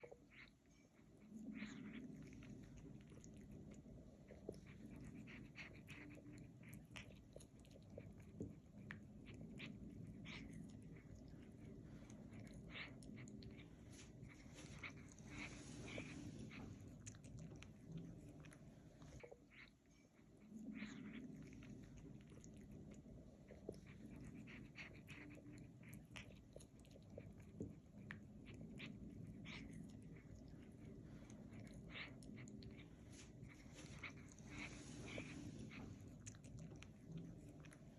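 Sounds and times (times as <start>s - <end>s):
cat chewing: 0.0s - 37.9s.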